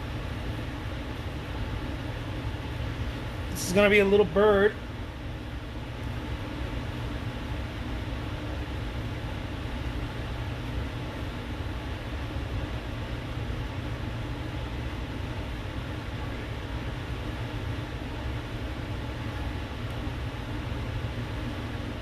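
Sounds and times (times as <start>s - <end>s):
room noise hum and hiss: 0.0s - 22.0s.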